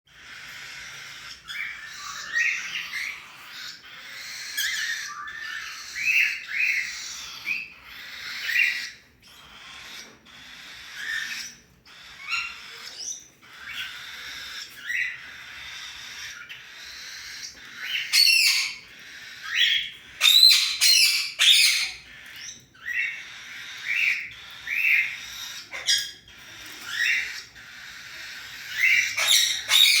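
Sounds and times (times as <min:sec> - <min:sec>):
cockatiel chicks calling: 0:00.1 - 0:30.0
sharp squawks: 0:00.1 - 0:30.0.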